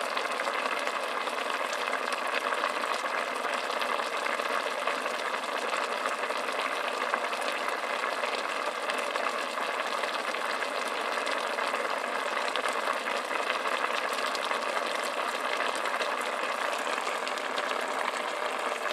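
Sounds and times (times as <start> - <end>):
sauce bubbling and crackling: 0.0 - 18.9.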